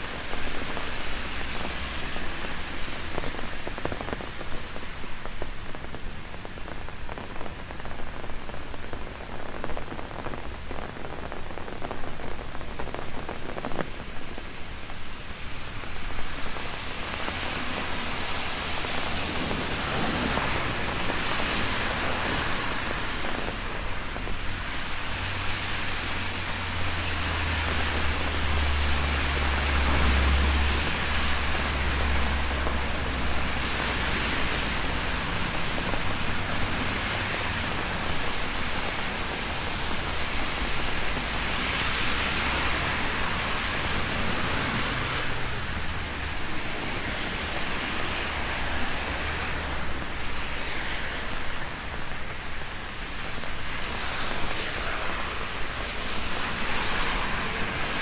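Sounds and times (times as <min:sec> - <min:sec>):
heavy rain on umbrella: 0:00.0 - 0:58.0.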